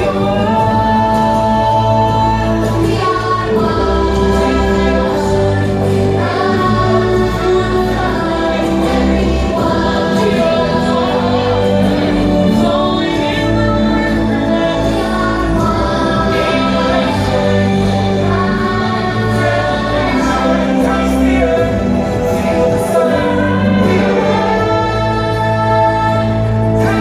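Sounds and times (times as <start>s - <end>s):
choir singing held chords: 0.0s - 27.0s
orchestral music: 0.0s - 27.0s.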